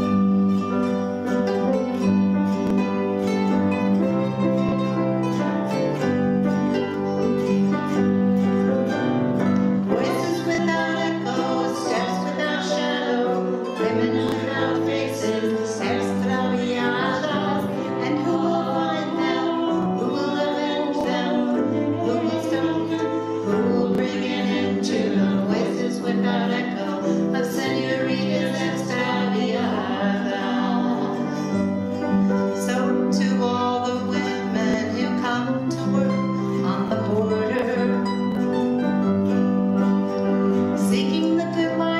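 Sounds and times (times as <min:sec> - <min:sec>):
acoustic guitar: 0:00.0 - 0:41.9
grand piano: 0:00.0 - 0:41.9.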